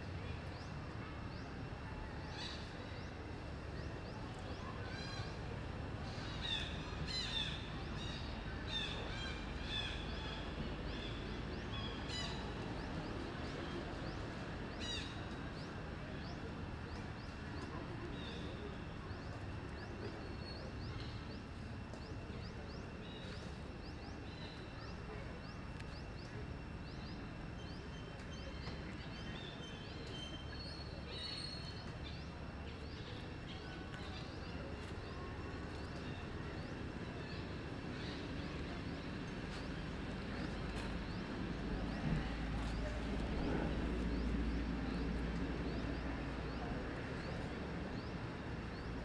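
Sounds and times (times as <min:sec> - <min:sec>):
steady outdoor noise: 0:00.0 - 0:49.0.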